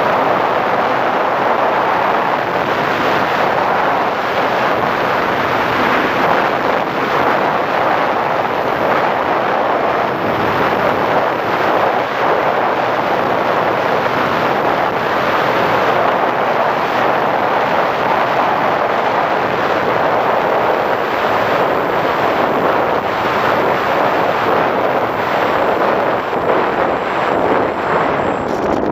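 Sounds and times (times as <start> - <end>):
model plane propeller noise: 0.0 - 28.9
rush of airflow: 0.0 - 28.9.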